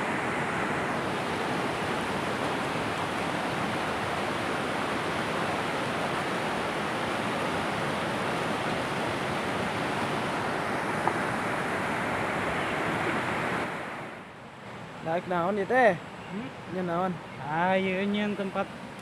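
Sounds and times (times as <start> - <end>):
river water rushing over rocks: 0.0 - 15.0, 18.4 - 19.0.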